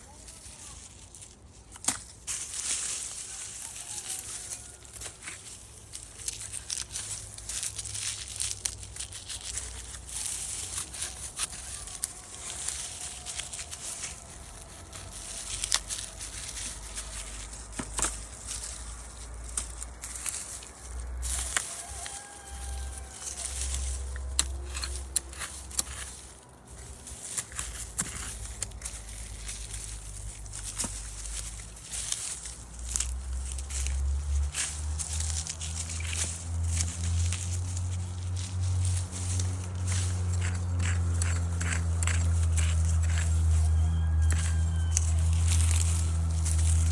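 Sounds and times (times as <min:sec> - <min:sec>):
dry onion tops rustling and tearing: 0:00.0 - 0:46.9
low steady rumble: 0:00.0 - 0:46.9.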